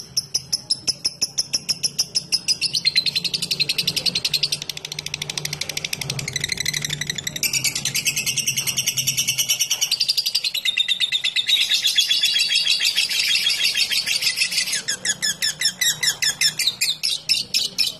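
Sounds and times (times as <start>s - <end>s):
lovebird chattering: 0.0s - 17.9s.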